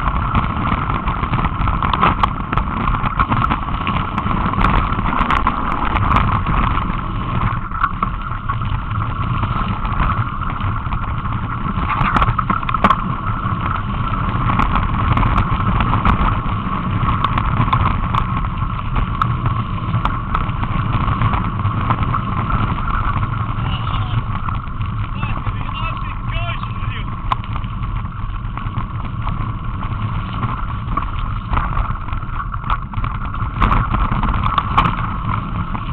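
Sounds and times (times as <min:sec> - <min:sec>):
bike clicks and rattles: 0:00.0 - 0:35.9
mountain bike riding on trail: 0:00.0 - 0:35.9.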